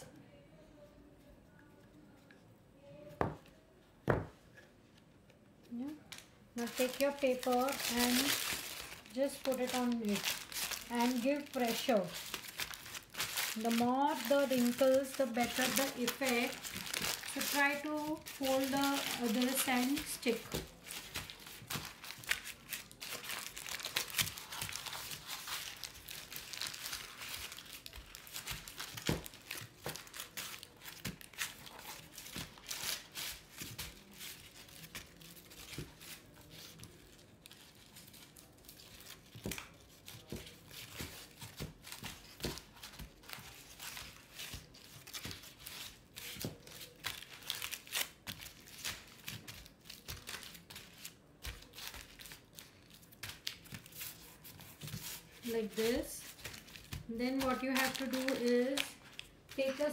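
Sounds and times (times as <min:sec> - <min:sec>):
tissue paper crinkling: 0:06.6 - 0:59.9.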